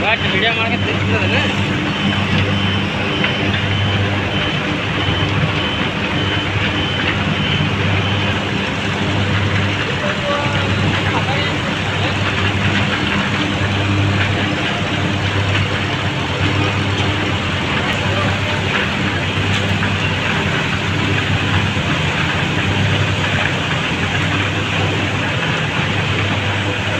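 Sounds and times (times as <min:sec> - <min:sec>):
diesel engines running hard: 0:00.0 - 0:26.9.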